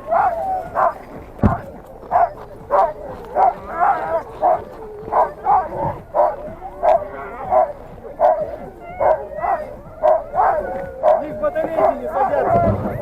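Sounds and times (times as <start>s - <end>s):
sled dogs barking and yipping: 0.0s - 13.0s.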